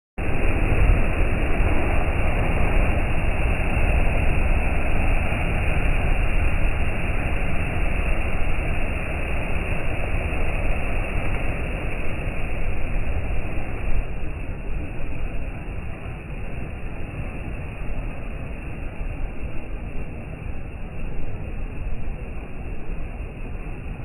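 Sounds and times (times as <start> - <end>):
sea waves breaking: 0.2 - 24.0.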